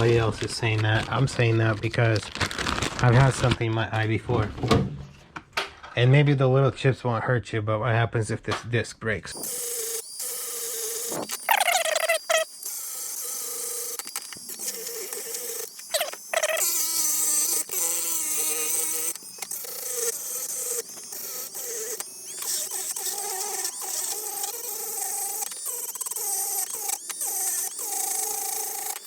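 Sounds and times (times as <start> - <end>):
rotary tool cutting plastic: 0.0 - 3.7, 9.3 - 29.0.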